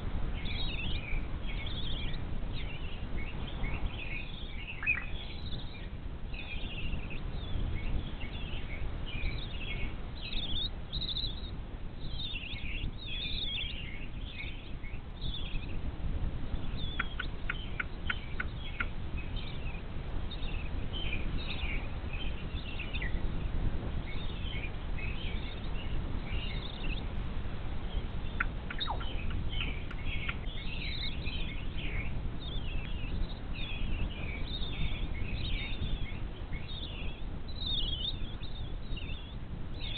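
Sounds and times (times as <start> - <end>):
low steady rumble: 0.0 - 39.9
birds chirping: 0.3 - 39.9.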